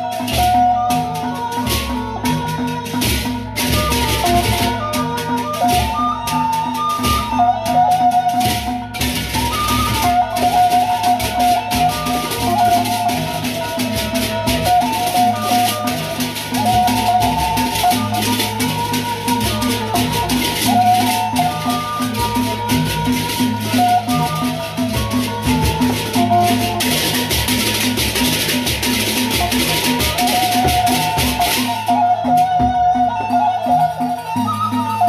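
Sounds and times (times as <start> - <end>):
barrel drums and gongs beat: 0.0 - 35.0.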